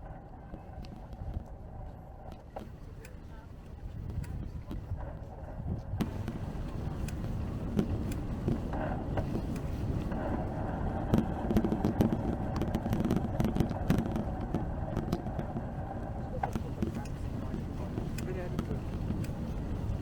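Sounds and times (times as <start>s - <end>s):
bicycle rumble: 0.0s - 20.0s
motor vehicle hum: 0.0s - 20.0s
light clicks and rattles: 0.4s - 10.4s, 11.1s - 20.0s.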